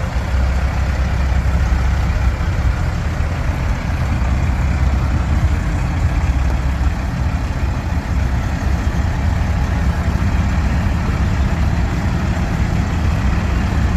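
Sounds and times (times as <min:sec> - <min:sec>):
diesel truck engine rumbling: 0:00.0 - 0:13.9.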